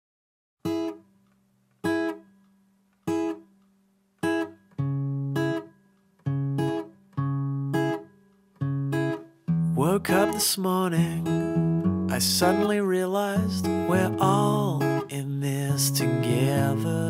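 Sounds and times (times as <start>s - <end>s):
acoustic guitar strumming: 0.6s - 1.2s, 1.8s - 2.4s, 3.0s - 3.6s, 4.2s - 17.0s.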